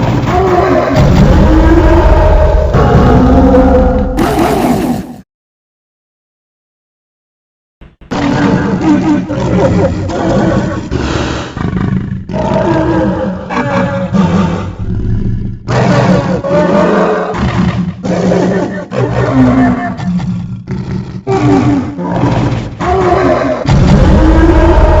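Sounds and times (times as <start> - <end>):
dinosaur roars: 0.0 - 5.2, 8.1 - 25.0.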